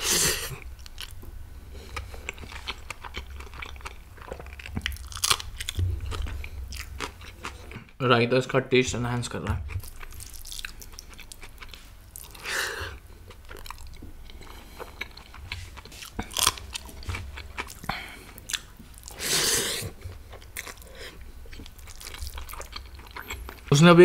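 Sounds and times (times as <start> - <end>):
person chewing and biting: 1.8 - 7.9, 9.7 - 23.7.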